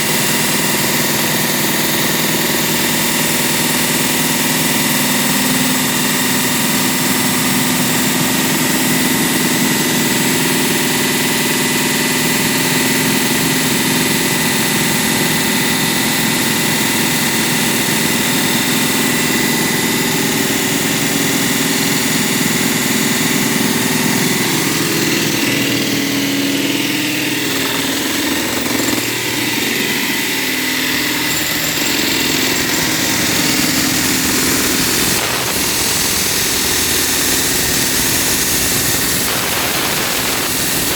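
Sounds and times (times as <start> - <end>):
machinery engine running: 0.0 - 40.9.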